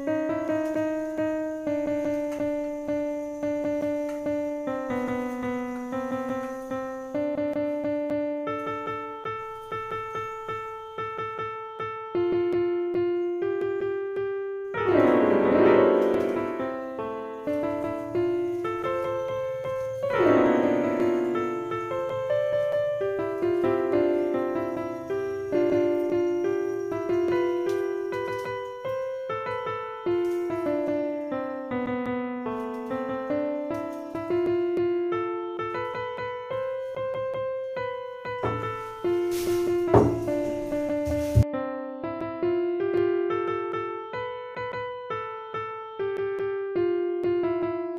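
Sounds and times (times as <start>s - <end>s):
keyboard piano melody: 0.0s - 47.9s.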